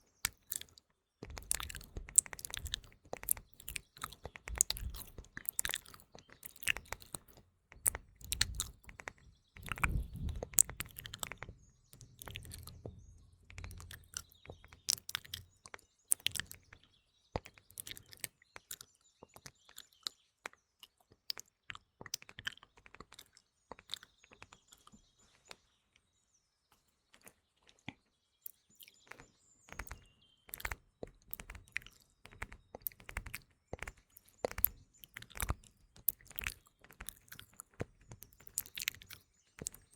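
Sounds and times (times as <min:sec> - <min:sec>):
songbirds chirping: 0:00.0 - 0:39.9
wet mouth clicks and smacks: 0:00.2 - 0:12.9, 0:13.5 - 0:16.8, 0:17.4 - 0:24.9, 0:28.5 - 0:39.9.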